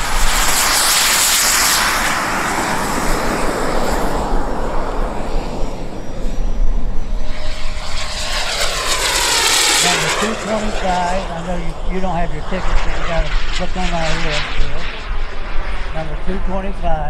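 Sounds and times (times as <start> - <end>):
faint high turbine whine: 0.0 - 17.0
model jet turbine engine roaring: 0.0 - 17.0.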